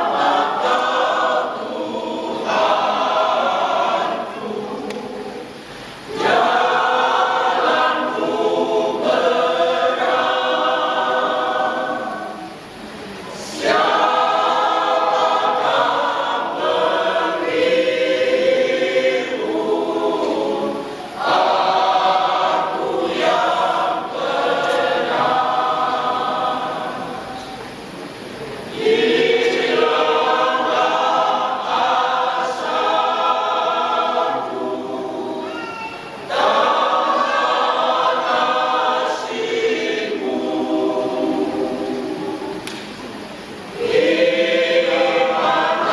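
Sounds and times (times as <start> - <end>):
church choir singing: 0.0 - 27.9, 28.6 - 45.9.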